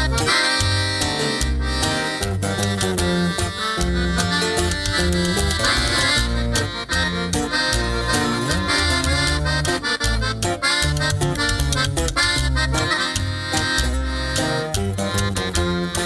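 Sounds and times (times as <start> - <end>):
accordion melody: 0.0 - 16.0
guitar: 0.0 - 16.0
plucked upright bass: 0.0 - 16.0.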